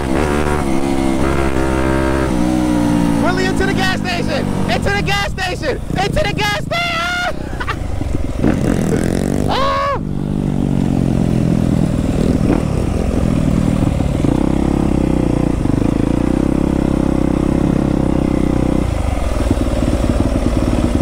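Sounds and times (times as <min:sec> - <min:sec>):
dirt bike engine: 0:00.0 - 0:21.0.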